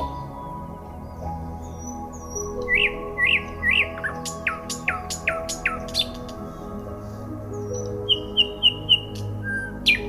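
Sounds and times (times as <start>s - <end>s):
birdsong: 0.0s - 10.0s.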